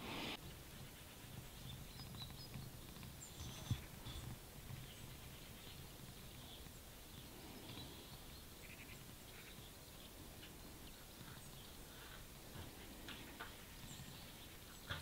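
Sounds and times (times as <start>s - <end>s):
faint bird chirps: 0.2s - 15.0s.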